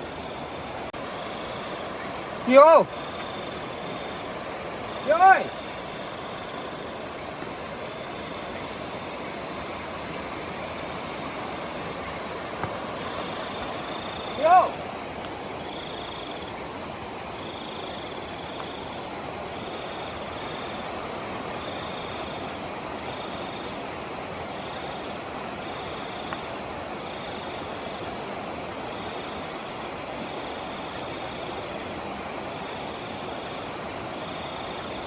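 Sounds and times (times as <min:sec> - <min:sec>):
insects trilling: 0:00.0 - 0:35.0
steady hiss: 0:00.0 - 0:35.0.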